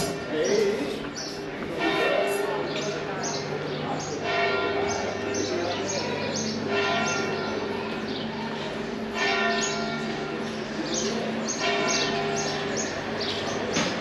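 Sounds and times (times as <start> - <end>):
church bell tolling: 1.5 - 14.0
small birds chirping: 2.6 - 14.0.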